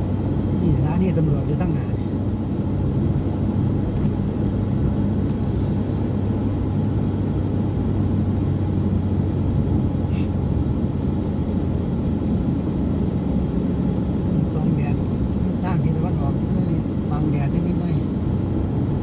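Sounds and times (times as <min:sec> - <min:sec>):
motorcycle engine hum: 0:00.0 - 0:19.0.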